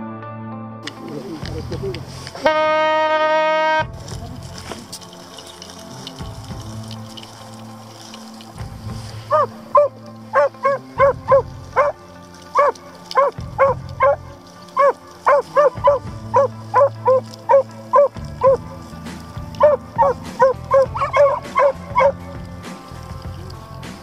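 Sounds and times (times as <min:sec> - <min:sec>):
background music low chords: 0:00.0 - 0:24.0
hounds baying: 0:04.4 - 0:23.7.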